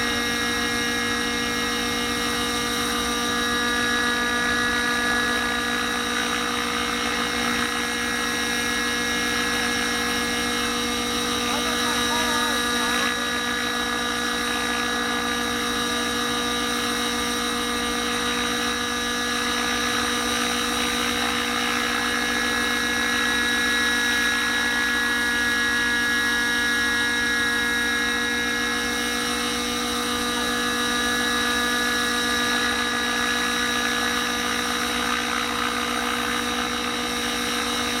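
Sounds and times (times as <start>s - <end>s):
higher-pitched hum: 0.0s - 38.0s
model helicopter whine: 0.0s - 38.0s.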